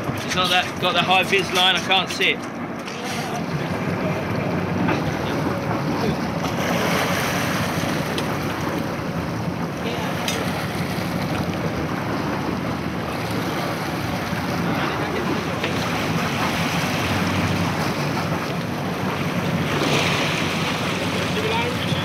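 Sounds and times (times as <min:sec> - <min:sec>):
low engine hum: 0:00.0 - 0:22.0
water against boat: 0:00.0 - 0:22.0.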